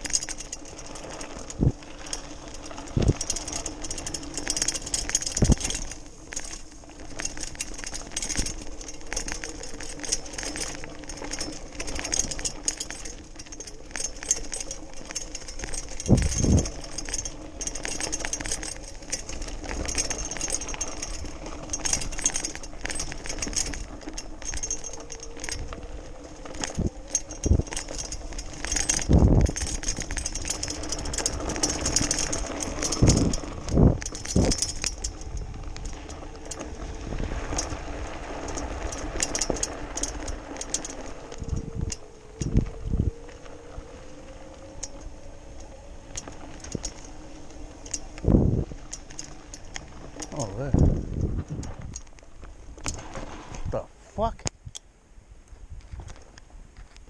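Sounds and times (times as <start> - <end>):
bike rattling over gravel: 0.0 - 54.7, 55.5 - 57.0.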